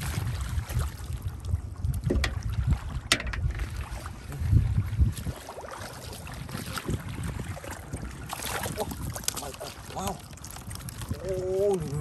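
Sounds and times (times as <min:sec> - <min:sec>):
muddy water sloshing and splashing: 0:00.0 - 0:12.0
wind rumbling on microphone: 0:00.0 - 0:12.0.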